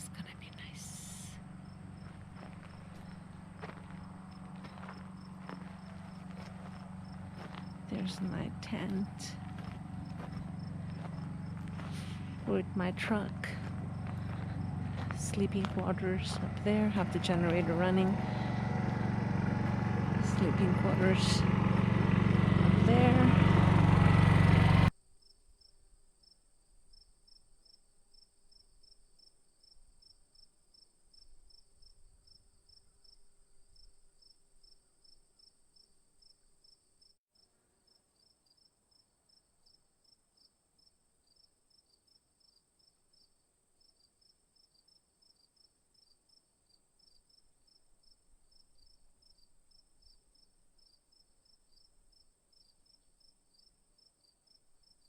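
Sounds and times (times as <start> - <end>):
crickets chirping: 0.2 - 15.7, 25.0 - 55.0.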